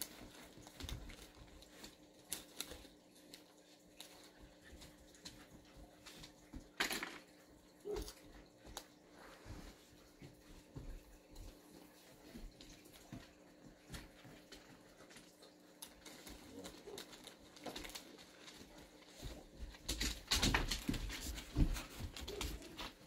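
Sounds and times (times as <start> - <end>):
dog paws tapping on wooden floor: 0.0 - 23.0.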